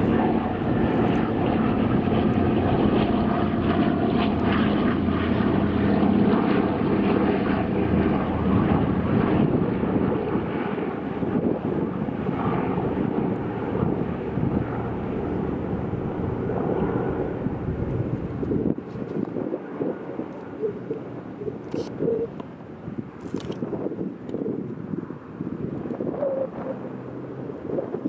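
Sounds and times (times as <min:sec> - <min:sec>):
propeller planes droning: 0:00.0 - 0:28.0.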